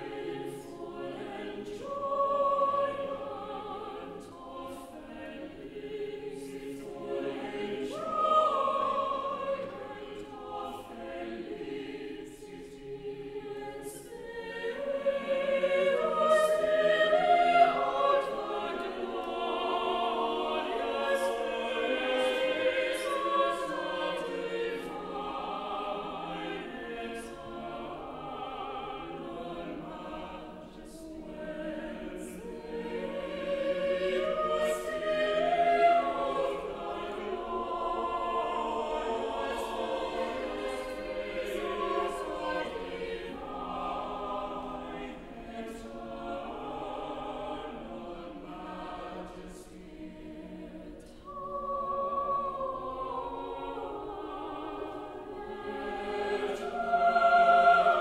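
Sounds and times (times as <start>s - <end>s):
choir singing a slow piece: 0.0s - 58.0s.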